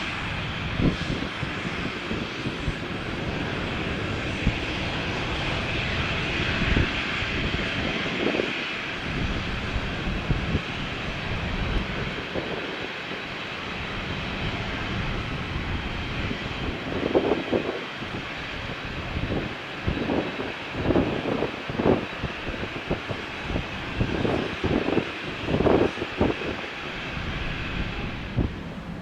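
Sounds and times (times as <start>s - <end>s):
jet engines hissing and rumbling: 0.0s - 29.0s.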